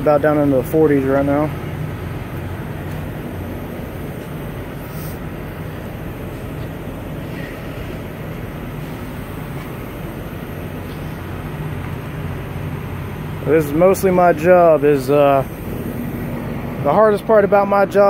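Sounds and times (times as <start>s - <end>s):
fuel rushing through hoses: 0.0s - 18.0s
low hum: 0.0s - 18.0s.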